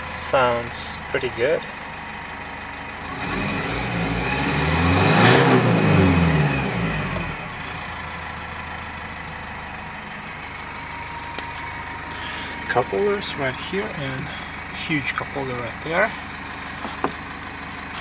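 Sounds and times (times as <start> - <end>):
diesel engine revving and idling: 0.0 - 18.0.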